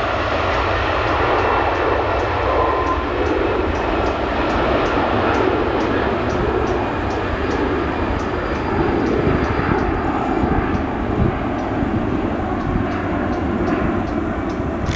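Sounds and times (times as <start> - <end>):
jet engines running: 0.0 - 14.9.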